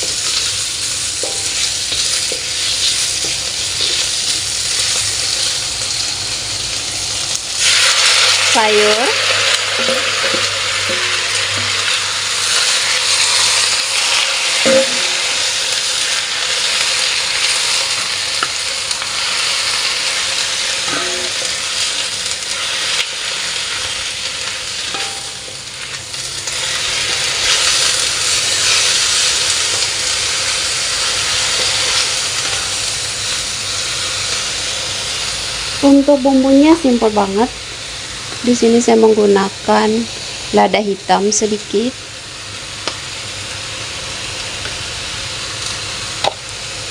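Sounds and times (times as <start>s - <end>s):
food sizzling in hot oil: 0.0s - 46.9s.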